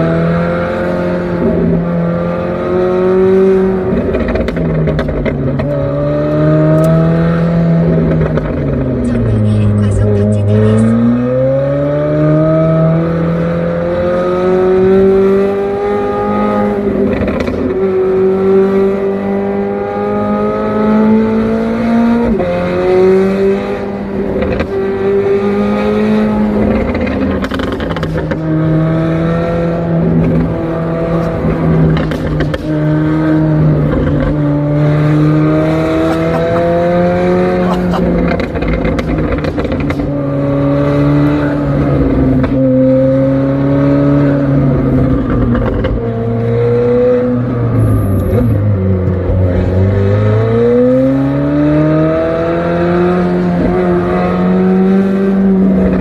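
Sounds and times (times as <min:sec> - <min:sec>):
sports car engine accelerating: 0:00.0 - 0:56.0.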